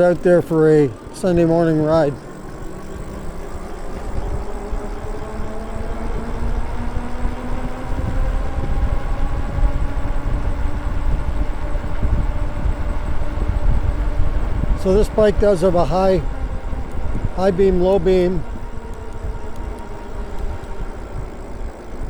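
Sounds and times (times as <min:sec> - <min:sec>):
electric bike motor whining: 0:00.0 - 0:22.0
wind rumble on microphone: 0:00.0 - 0:22.0.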